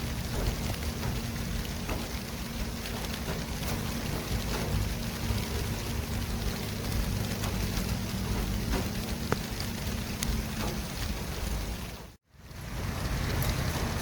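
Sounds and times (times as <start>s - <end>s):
rumble of engines: 0.0s - 14.0s
tyres hissing on road: 0.0s - 14.0s.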